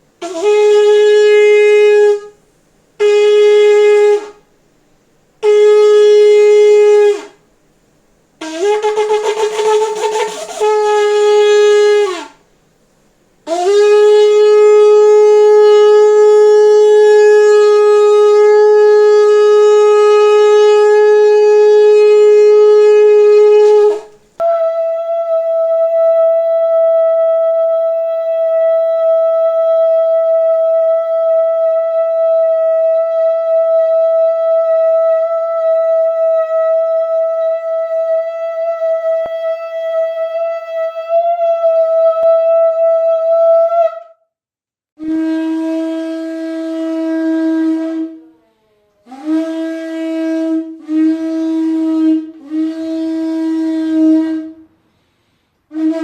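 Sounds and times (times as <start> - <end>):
shofar blasts: 0.2 - 2.4, 3.0 - 4.4, 5.4 - 7.4, 8.4 - 12.4, 13.4 - 44.2, 45.0 - 54.7, 55.7 - 56.0.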